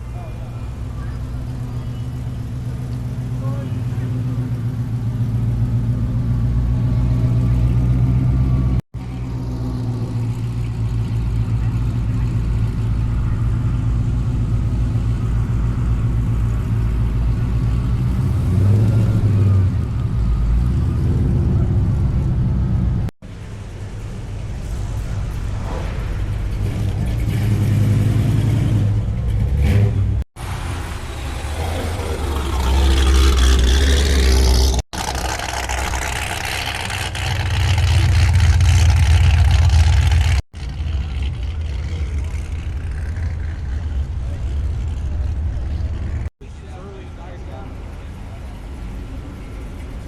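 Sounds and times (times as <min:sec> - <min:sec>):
car engines idling and revving: 0:00.0 - 0:50.0.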